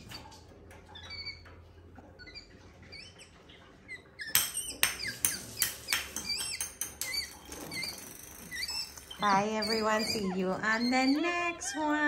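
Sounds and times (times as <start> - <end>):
monkey squeaking: 1.0 - 1.4, 2.2 - 12.0.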